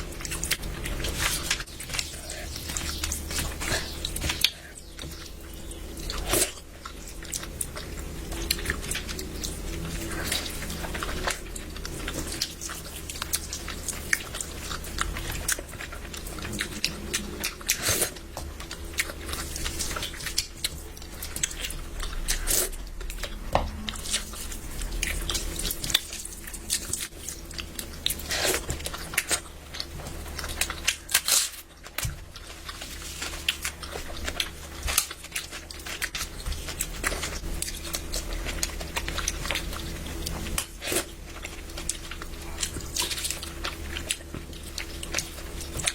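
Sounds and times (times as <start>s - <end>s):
low steady hum: 0.0s - 45.9s
person chewing food: 0.0s - 45.9s.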